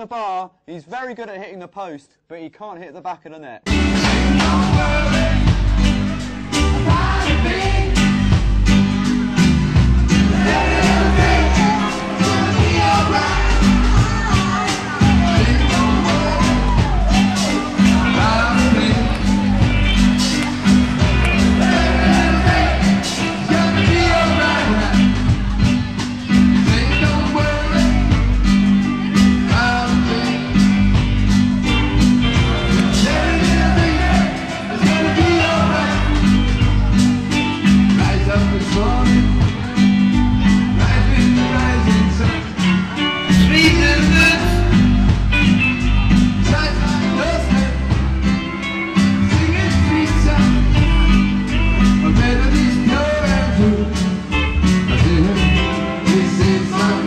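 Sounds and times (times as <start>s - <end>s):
band playing: 3.6s - 57.0s
person singing: 3.7s - 9.1s, 10.1s - 30.9s, 32.2s - 48.0s, 49.0s - 57.0s.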